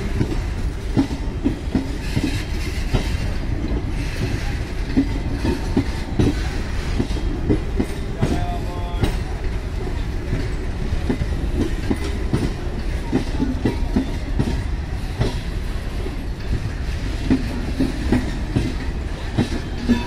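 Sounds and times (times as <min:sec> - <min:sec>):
train coaches rumbling: 0:00.0 - 0:20.0
wheels clacking over rail joints: 0:00.0 - 0:20.0.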